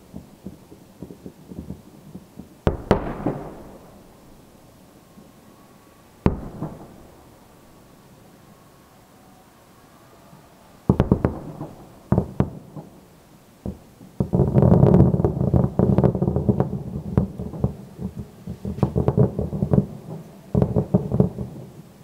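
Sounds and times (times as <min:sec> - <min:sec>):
distant fireworks bangs: 0:00.0 - 0:08.6, 0:10.2 - 0:21.9.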